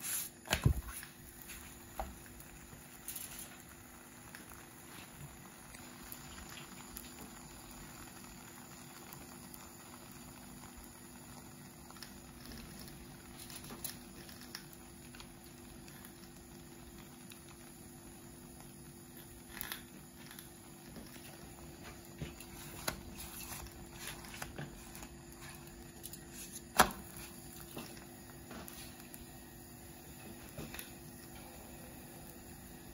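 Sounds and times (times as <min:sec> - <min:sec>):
batter sizzling in a frying pan: 0:00.0 - 0:32.9.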